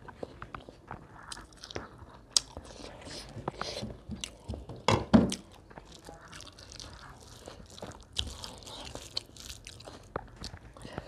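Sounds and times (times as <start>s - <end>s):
person chewing and lip-smacking: 0.0s - 11.0s.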